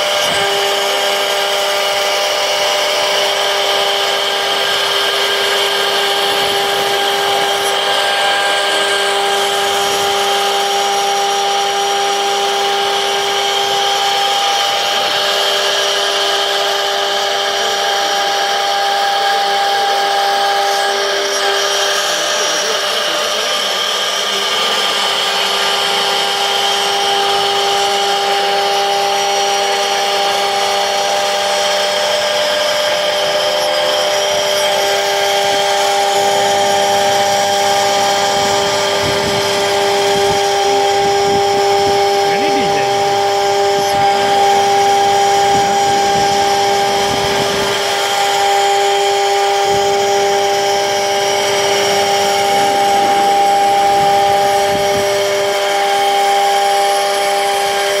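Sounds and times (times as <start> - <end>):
router spindle whining: 0.0 - 58.0.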